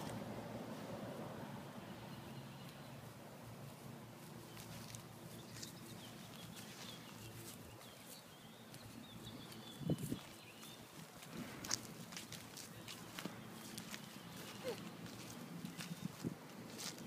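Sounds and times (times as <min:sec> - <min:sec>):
small birds chirping: 0:01.7 - 0:17.0
footsteps on dry grass: 0:03.1 - 0:17.0.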